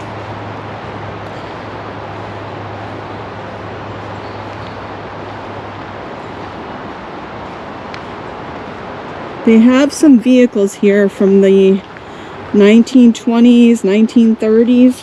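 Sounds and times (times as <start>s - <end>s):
highway traffic drone: 0.0s - 15.0s.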